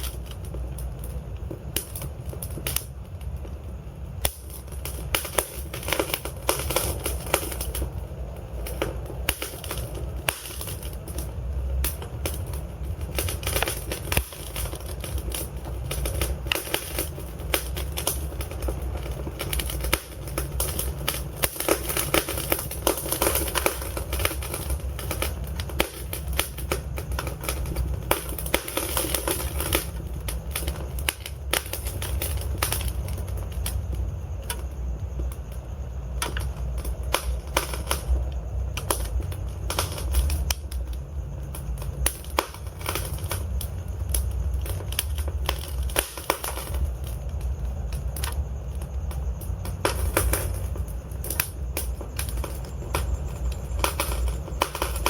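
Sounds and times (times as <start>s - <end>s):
low rumble of burning logs: 0.0s - 55.0s
sharp pops and snaps: 0.0s - 55.0s
wood fire crackling: 0.0s - 55.0s.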